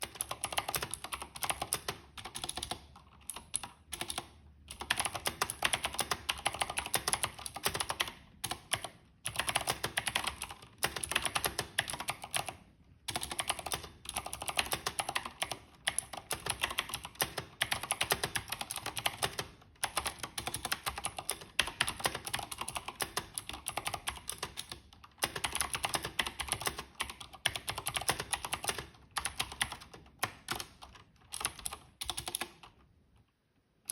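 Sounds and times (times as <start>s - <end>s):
fast typing on mechanical keyboard: 0.0s - 32.8s.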